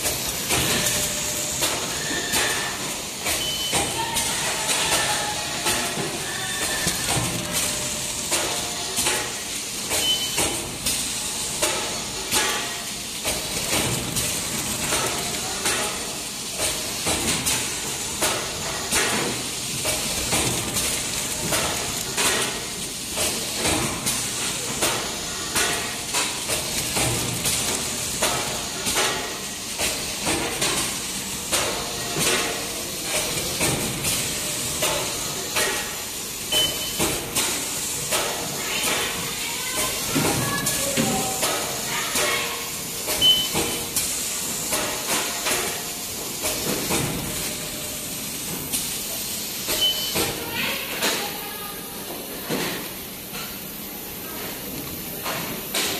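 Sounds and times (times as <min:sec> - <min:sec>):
packing machine rattle and hiss: 0:00.0 - 0:55.9.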